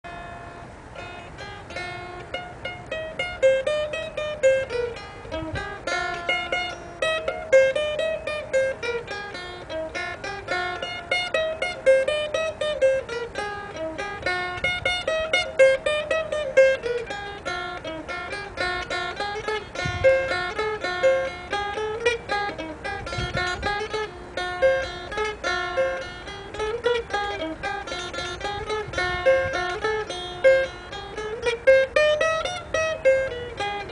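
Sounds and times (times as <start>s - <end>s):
solo mandolin picking: 0.0s - 33.9s.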